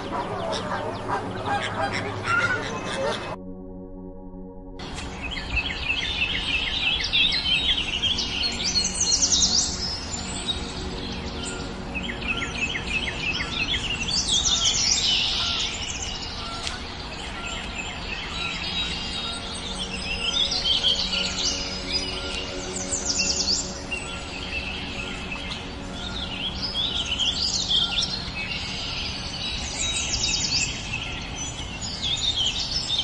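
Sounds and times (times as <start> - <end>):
small birds chirping and singing: 0.0 - 3.4, 4.8 - 33.0
steady low background noise: 0.0 - 33.0.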